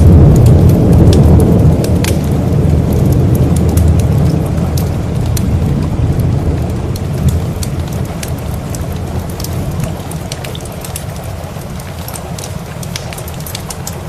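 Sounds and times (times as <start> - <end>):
sharp ticks and crackles: 0.0 - 14.0
steady rain: 0.0 - 14.0
thunder rumbling: 0.0 - 14.0.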